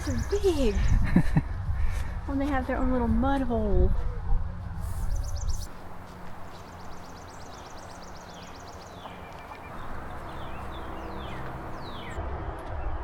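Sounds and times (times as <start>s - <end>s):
songbirds singing: 0.0s - 4.0s, 4.6s - 5.8s, 6.4s - 13.0s
low outdoor rumble: 0.0s - 13.0s.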